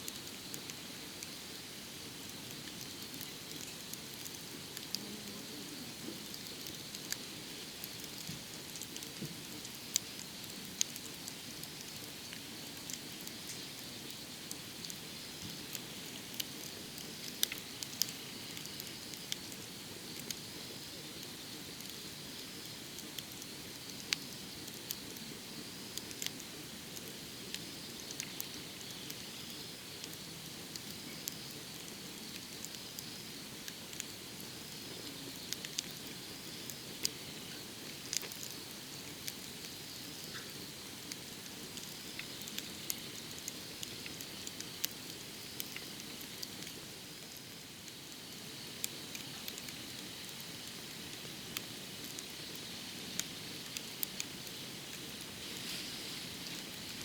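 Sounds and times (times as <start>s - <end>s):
fire hissing: 0.0s - 57.0s
firewood crackling and popping: 0.0s - 57.0s.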